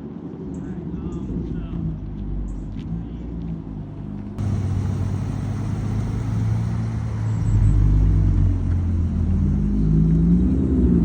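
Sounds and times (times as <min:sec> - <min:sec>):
car engines rumbling: 0:00.1 - 0:11.0.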